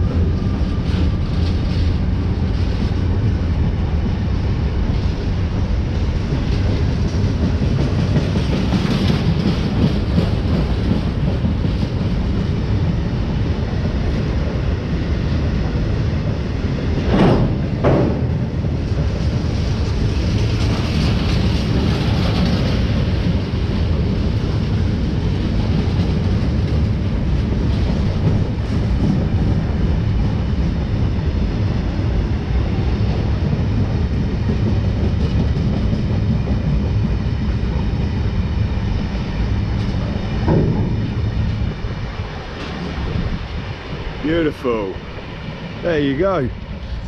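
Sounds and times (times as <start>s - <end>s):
freight train wagons rattling on track: 0.0s - 47.0s.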